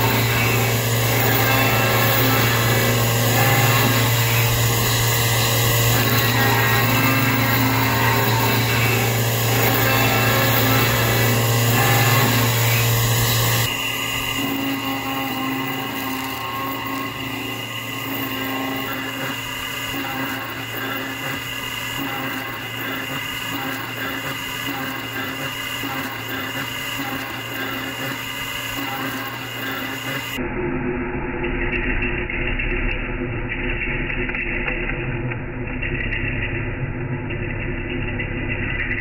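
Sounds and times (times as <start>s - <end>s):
milling machine spindle whine: 0.0s - 30.5s, 31.4s - 39.0s.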